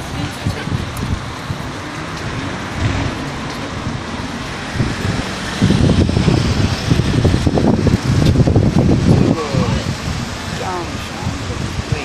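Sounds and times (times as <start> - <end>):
steady outdoor noise: 0.0 - 12.0
wind buffeting microphone: 0.0 - 12.0.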